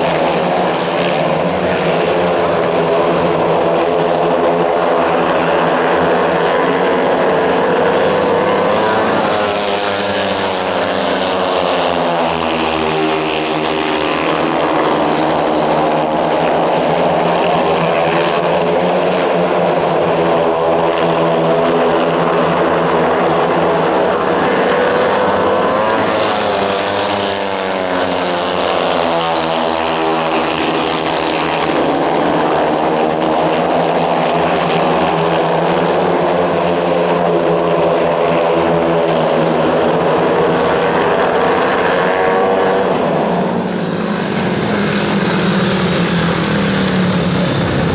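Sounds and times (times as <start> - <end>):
motorcycles racing: 0.0 - 47.9.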